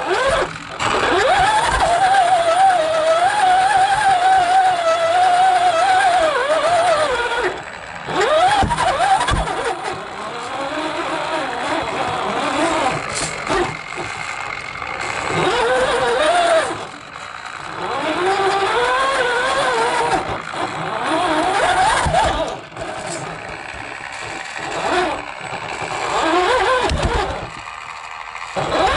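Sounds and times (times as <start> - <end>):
toy car motor revving: 0.0 - 28.9.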